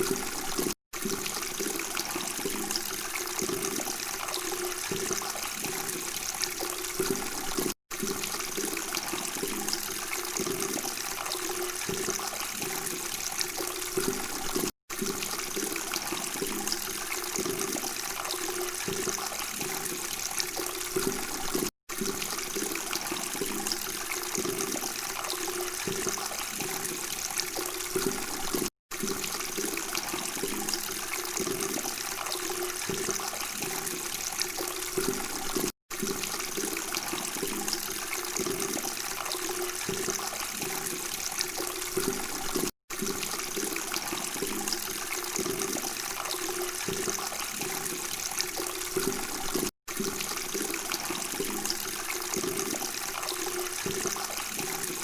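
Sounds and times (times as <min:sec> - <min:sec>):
water babbling and trickling: 0:00.0 - 0:55.0.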